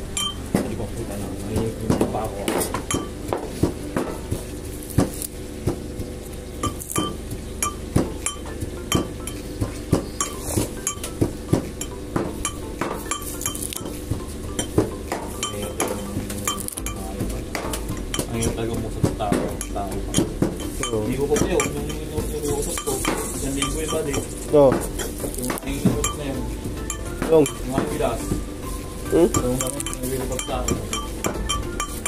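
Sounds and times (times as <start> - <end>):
steady low hum: 0.0 - 32.0
dishes and utensils clinking: 0.1 - 0.9, 1.5 - 4.4, 6.6 - 28.4, 29.0 - 32.0.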